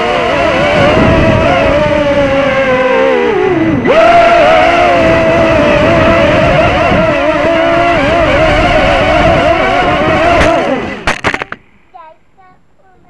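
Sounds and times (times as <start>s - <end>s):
quadcopter motors whining: 0.0s - 11.6s
wind on microphone: 0.0s - 11.6s.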